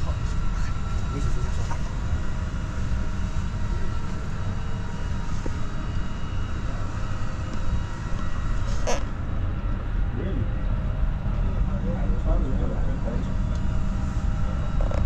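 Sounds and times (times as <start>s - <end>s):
aircraft and machinery rumble: 0.0s - 15.0s
faint whining tones: 0.0s - 15.0s.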